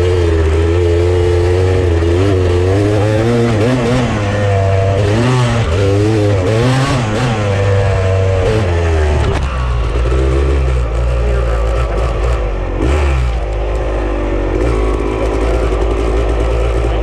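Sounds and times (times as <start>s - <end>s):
off-road vehicle engine revving: 0.0s - 17.0s
steady low drone: 0.0s - 17.0s.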